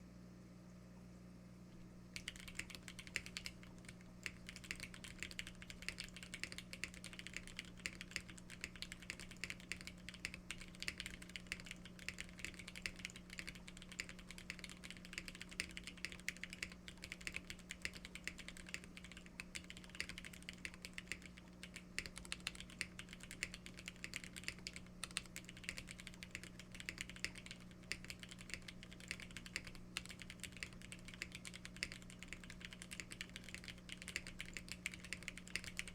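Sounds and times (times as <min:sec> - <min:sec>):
faint low hum: 0:00.0 - 0:35.9
mechanical keyboard typing: 0:02.2 - 0:35.9.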